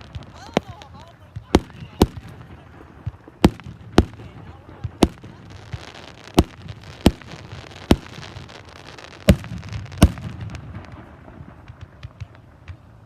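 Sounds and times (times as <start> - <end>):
fireworks bangs: 0.0 - 13.0
fireworks crackling pops: 0.0 - 13.0.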